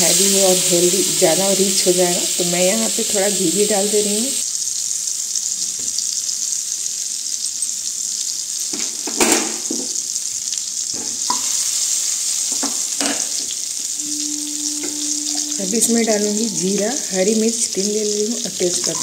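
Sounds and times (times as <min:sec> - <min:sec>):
butter sizzling in a pan: 0:00.0 - 0:19.0.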